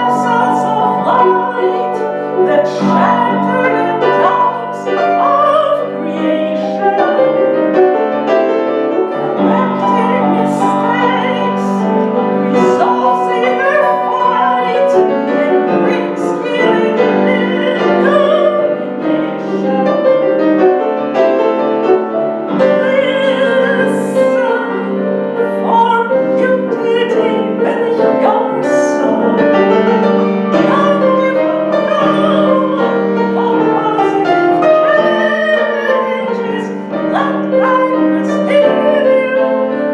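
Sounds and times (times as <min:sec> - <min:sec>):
woman singing operatically: 0:00.0 - 0:20.6, 0:22.4 - 0:39.9
piano accompaniment: 0:00.0 - 0:39.9.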